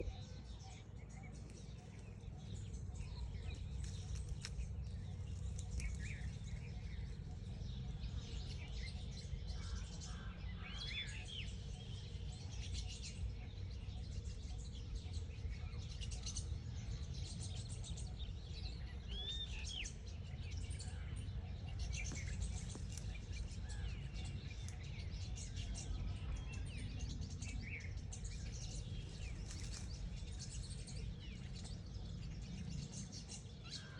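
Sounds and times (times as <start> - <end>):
birds chirping: 0.0 - 33.9
steady low rumble: 0.0 - 33.9.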